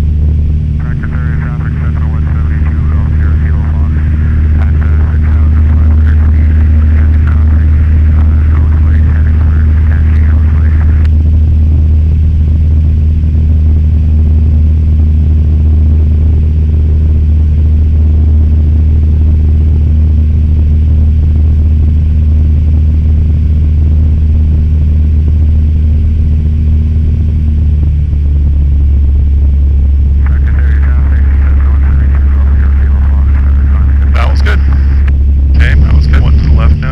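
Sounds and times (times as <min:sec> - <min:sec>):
light aircraft engine droning: 0:00.0 - 0:36.9.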